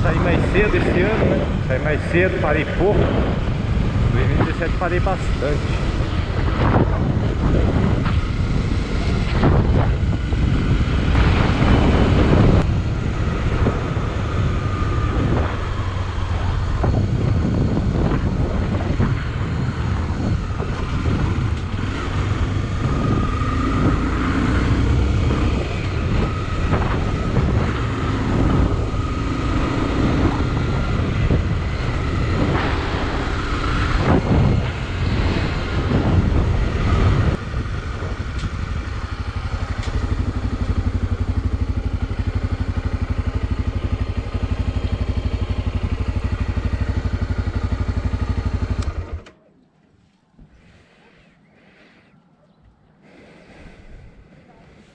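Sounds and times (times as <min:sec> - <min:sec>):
wind buffeting microphone: 0:00.0 - 0:49.2
motorcycle engine running: 0:00.0 - 0:49.5.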